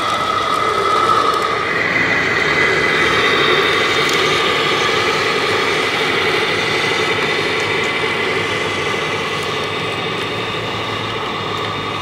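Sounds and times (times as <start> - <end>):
toy truck engine idling: 0.0 - 12.0.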